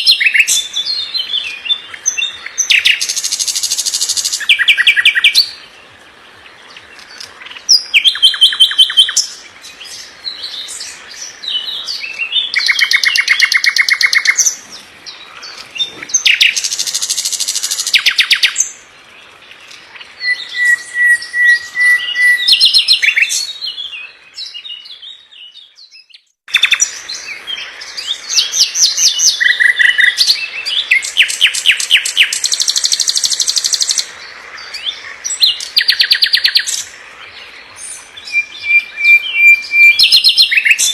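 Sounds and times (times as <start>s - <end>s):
songbird trilling: 0.0s - 5.7s, 6.7s - 18.8s, 19.8s - 24.6s, 26.0s - 37.0s, 37.8s - 40.9s.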